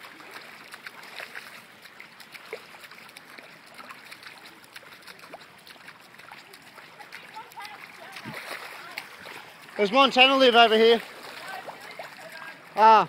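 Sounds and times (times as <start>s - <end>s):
floodwater trickling: 0.0s - 13.0s
small splashes and drips: 0.0s - 13.0s.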